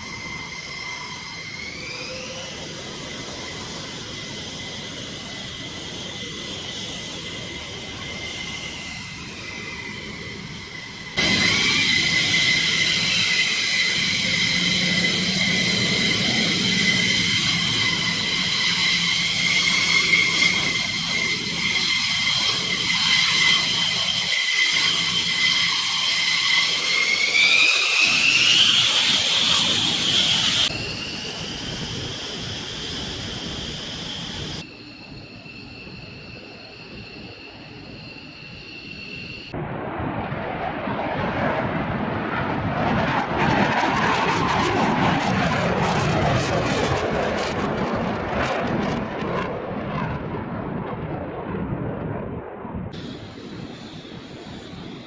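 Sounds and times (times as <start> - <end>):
high turbine whine: 0.0 - 49.6, 52.2 - 55.0
jet engines running: 0.0 - 55.0.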